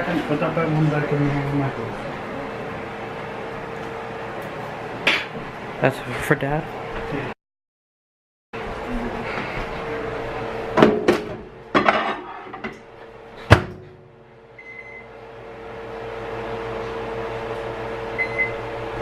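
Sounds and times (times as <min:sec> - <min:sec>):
microwave hum: 0:00.0 - 0:07.4, 0:08.6 - 0:19.0.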